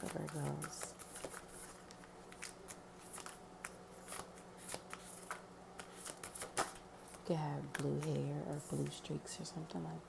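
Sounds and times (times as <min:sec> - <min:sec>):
cards being shuffled: 0:00.0 - 0:08.9
faint steady hum: 0:00.0 - 0:10.0.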